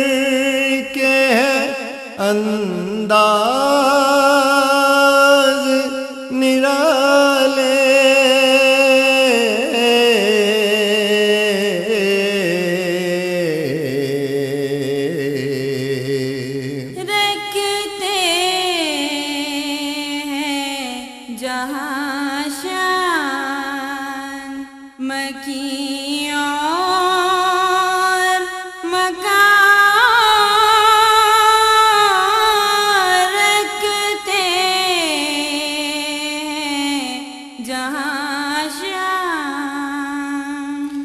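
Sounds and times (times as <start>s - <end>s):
solo voice singing devotional song: 0.0s - 41.0s.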